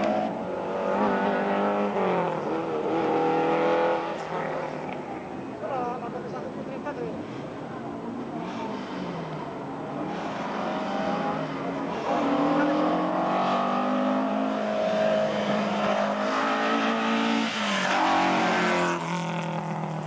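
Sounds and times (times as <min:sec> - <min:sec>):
racing car engine at full throttle: 0:00.0 - 0:20.0.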